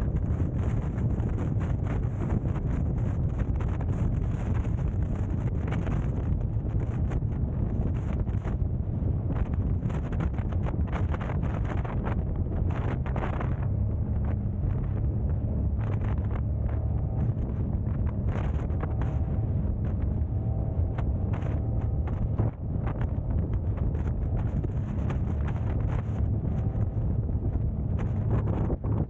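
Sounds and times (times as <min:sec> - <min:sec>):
car engine and road rumble: 0:00.0 - 0:29.0
wind buffeting microphone: 0:00.0 - 0:29.0.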